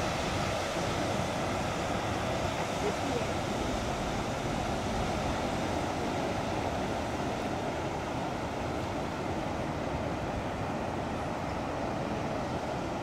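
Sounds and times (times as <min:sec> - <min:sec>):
tidal bore water rushing: 0:00.0 - 0:13.0.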